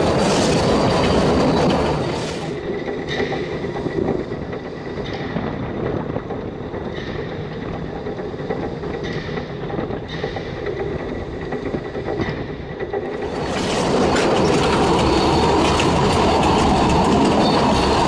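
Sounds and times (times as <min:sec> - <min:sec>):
train wheels rumbling on rails: 0:00.0 - 0:18.0
wheel clicks over rail joints: 0:00.0 - 0:18.0.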